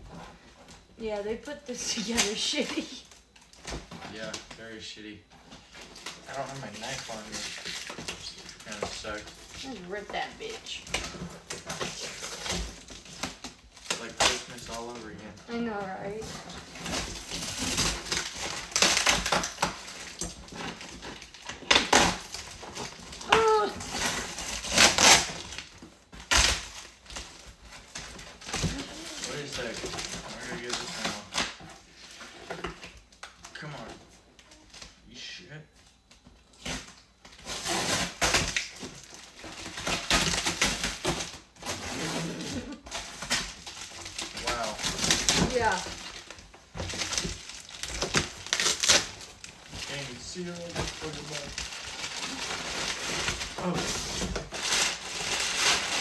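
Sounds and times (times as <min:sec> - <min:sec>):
cardboard box tearing: 0:05.5 - 0:33.0, 0:36.5 - 0:56.0.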